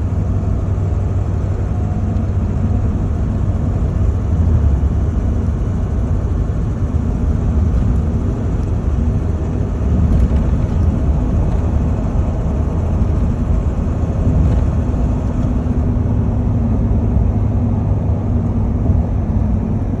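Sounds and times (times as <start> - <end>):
engine droning under load: 0.0 - 20.0.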